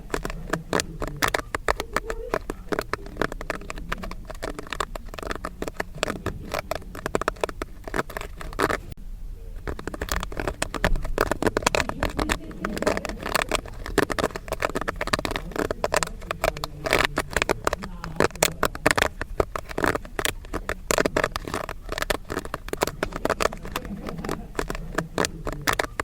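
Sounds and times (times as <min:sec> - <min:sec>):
popcorn popping: 0:00.0 - 0:26.0.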